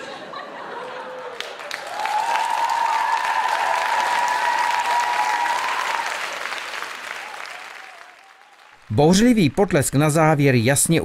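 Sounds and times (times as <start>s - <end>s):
audience applause: 0.7s - 10.6s.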